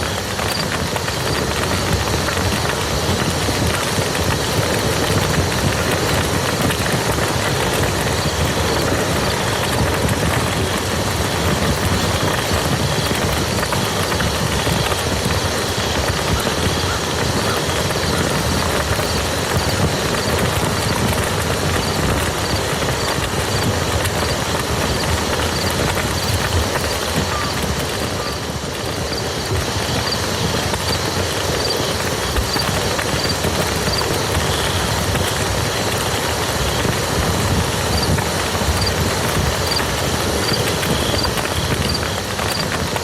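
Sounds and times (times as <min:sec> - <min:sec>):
steady rain patter: 0:00.0 - 0:43.0.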